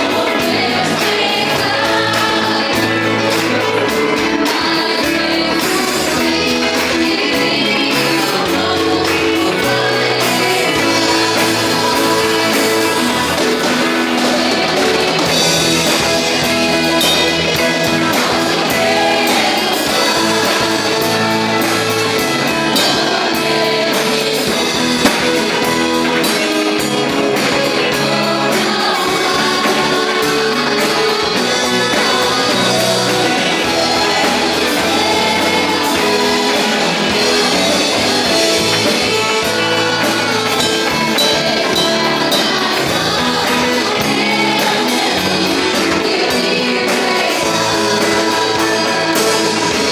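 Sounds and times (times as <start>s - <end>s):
gospel band playing: 0.0s - 49.9s
voices singing: 0.0s - 49.9s.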